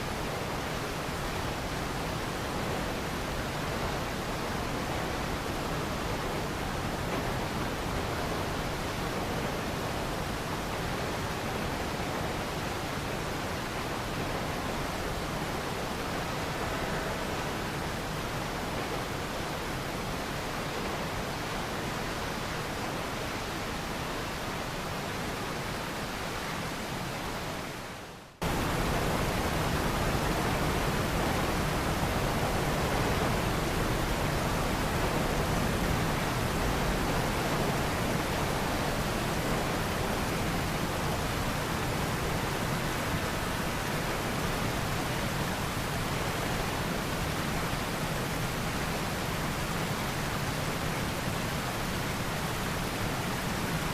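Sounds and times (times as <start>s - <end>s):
static-like rushing hiss: 0.0s - 53.9s.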